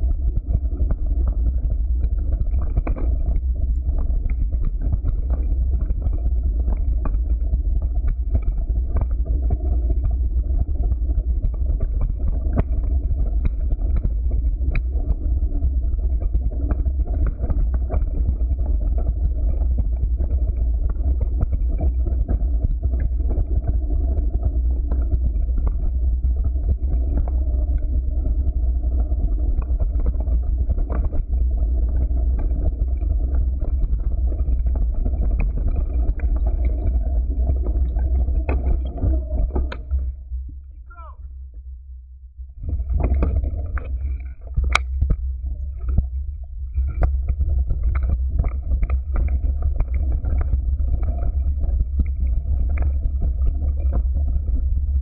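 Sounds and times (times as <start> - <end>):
knobby tyres rolling over stones: 0.0 - 40.2, 42.6 - 55.0.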